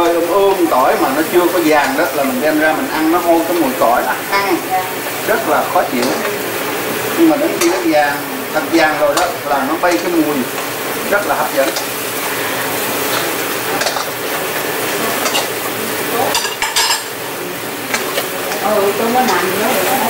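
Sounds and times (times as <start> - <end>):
crab legs sizzling in a frying pan: 0.0 - 20.0.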